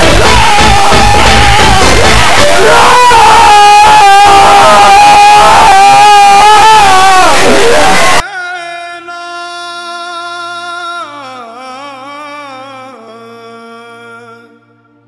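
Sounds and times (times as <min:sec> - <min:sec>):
loud distorted singing: 0:00.0 - 0:15.0.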